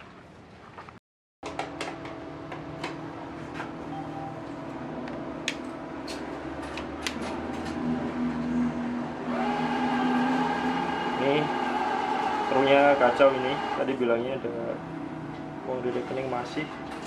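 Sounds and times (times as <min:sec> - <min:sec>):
steady machine hum: 0:01.4 - 0:17.0.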